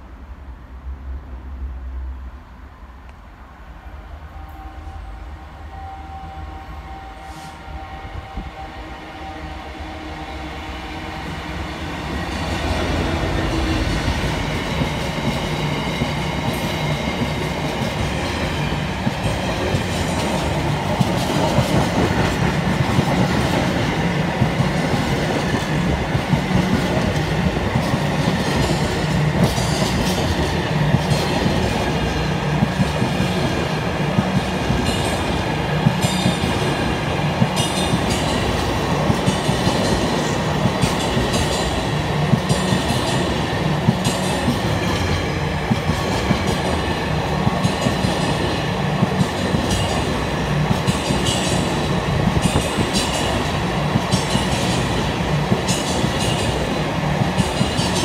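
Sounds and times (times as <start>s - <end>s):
steel wheels rumbling on rails: 3.9s - 58.0s.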